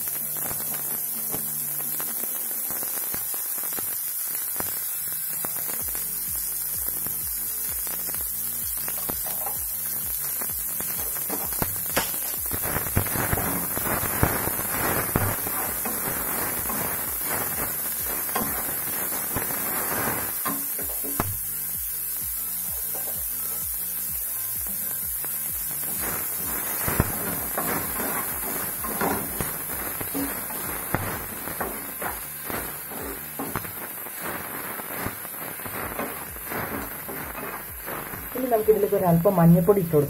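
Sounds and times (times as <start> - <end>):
onions frying in oil: 0.0 - 40.0.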